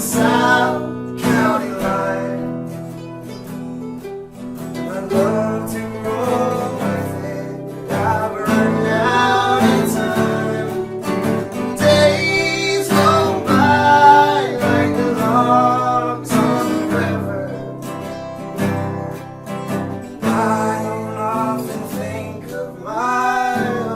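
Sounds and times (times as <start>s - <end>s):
acoustic guitar strumming: 0.0s - 23.9s
person singing: 0.0s - 23.9s.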